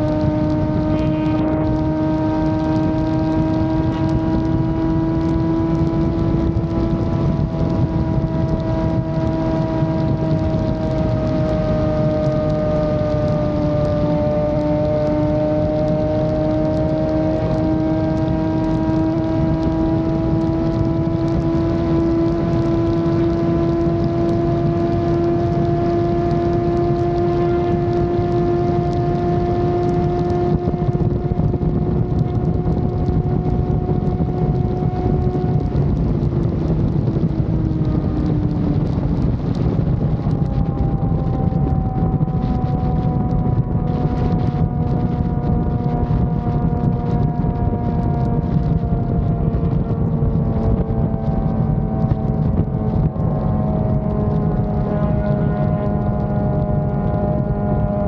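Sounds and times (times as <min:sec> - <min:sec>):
motorcycle engine at high revs: 0:00.0 - 0:58.0
wind and road noise: 0:00.0 - 0:58.0.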